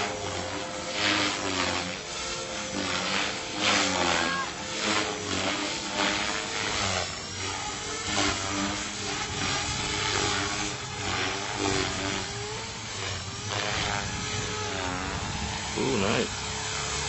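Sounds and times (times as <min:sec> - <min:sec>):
rc helicopter rotor and motor: 0:00.0 - 0:17.0.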